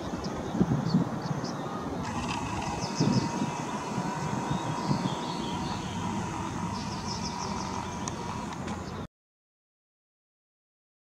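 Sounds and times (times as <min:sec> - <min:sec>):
small birds chirping: 0:00.0 - 0:09.1.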